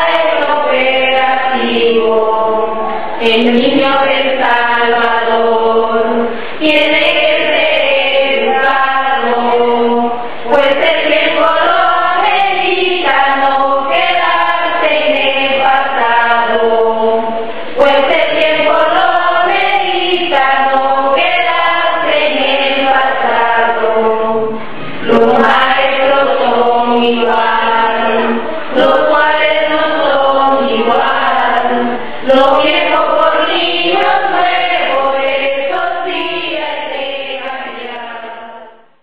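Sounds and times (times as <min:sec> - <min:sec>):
voices singing held notes: 0:00.0 - 0:39.0.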